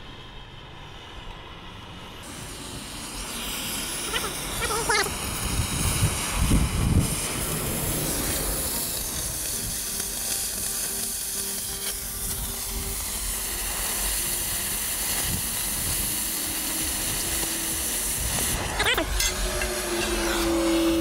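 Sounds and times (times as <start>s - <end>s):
cutting torch hissing: 0.0s - 21.0s.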